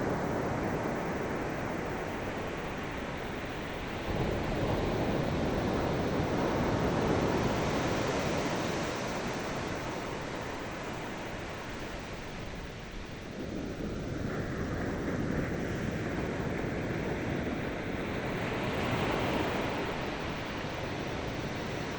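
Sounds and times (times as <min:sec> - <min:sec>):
low rumble of sea: 0:00.0 - 0:21.9.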